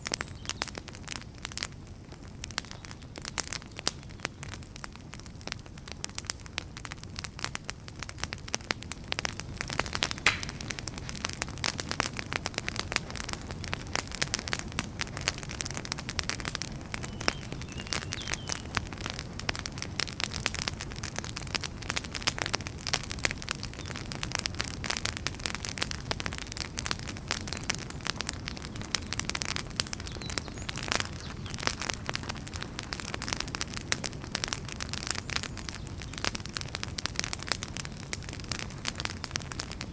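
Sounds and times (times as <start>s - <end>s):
low rumble of burning logs: 0.0s - 39.9s
wood fire crackling and popping: 0.0s - 39.9s.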